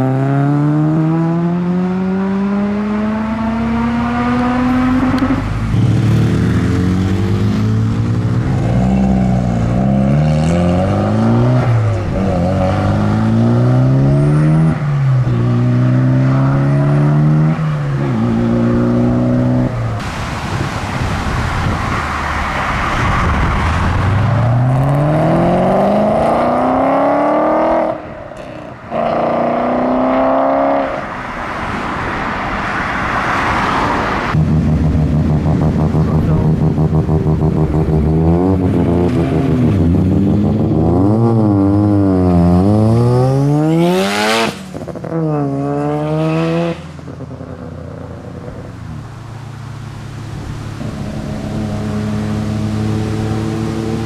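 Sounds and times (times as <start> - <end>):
car engines revving up through gears: 0.0 - 20.1, 23.4 - 31.1, 33.5 - 48.7, 50.3 - 54.0.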